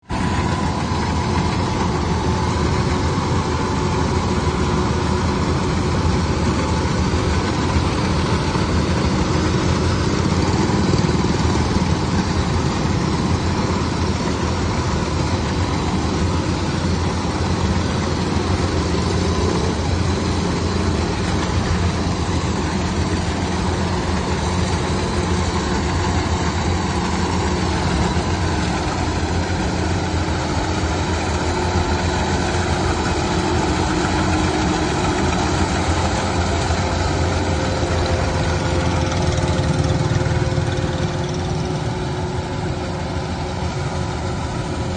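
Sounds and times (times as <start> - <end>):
harvester engine droning: 0.0 - 44.9.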